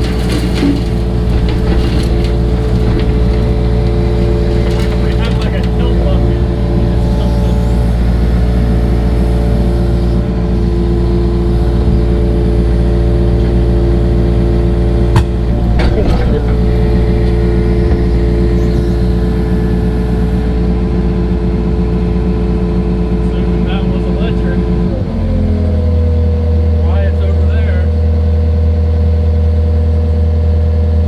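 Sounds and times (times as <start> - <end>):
heavy machinery engine running: 0.0 - 31.0.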